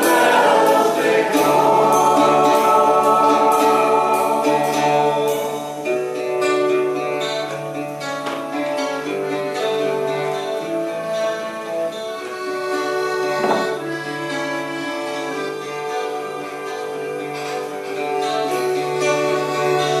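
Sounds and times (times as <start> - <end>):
accordion-like held notes: 0.0 - 6.6, 10.6 - 20.0
guitar: 0.0 - 20.0.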